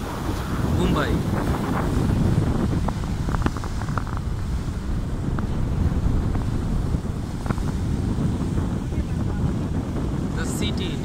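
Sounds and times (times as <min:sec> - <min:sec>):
sea waves breaking on rocks: 0:00.0 - 0:11.0
wind buffeting microphone: 0:00.0 - 0:11.0.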